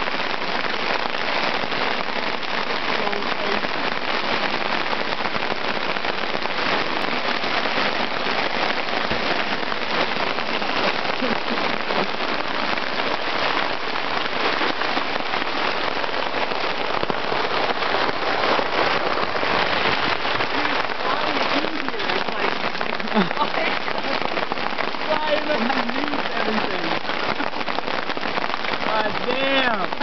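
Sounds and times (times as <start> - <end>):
hail pelting a tarp: 0.0 - 30.0.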